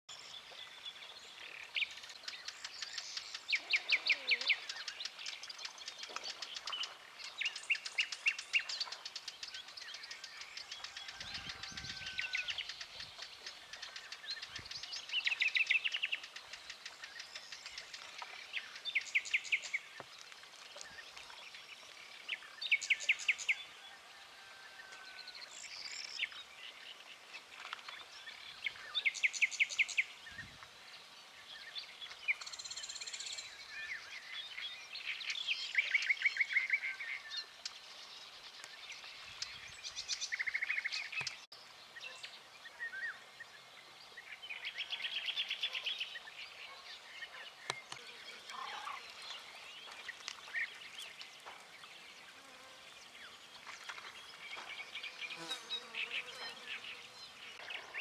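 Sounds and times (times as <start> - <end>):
birds singing: 0.1 - 58.0.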